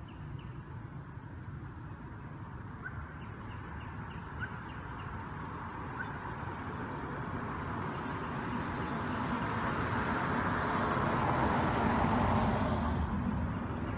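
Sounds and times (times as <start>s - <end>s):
road vehicle passing: 0.0s - 13.9s.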